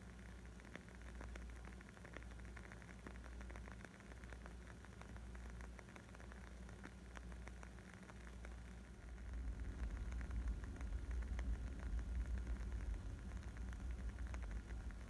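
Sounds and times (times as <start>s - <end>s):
wood fire crackling: 0.6s - 15.0s.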